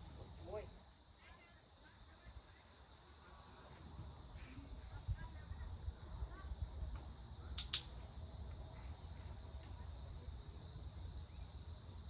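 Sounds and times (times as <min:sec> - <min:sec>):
high hum of insects: 0:00.0 - 0:12.0.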